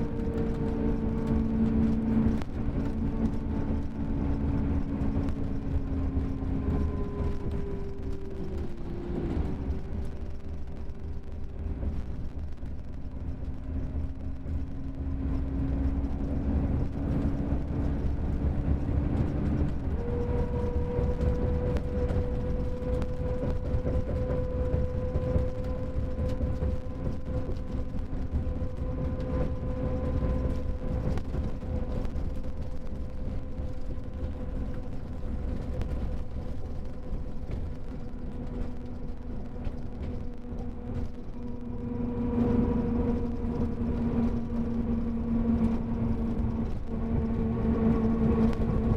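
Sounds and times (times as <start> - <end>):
diesel engine rumbling: 0.0 - 48.9.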